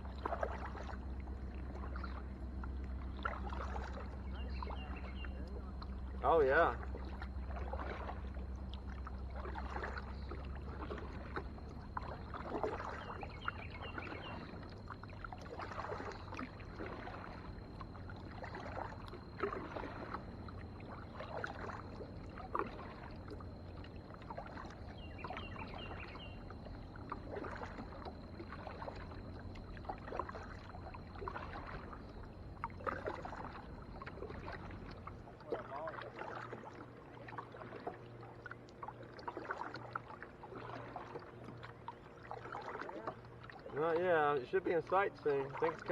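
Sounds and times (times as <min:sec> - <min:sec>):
paddle strokes splashing: 0:00.0 - 0:45.9
steady low hum: 0:00.0 - 0:45.9.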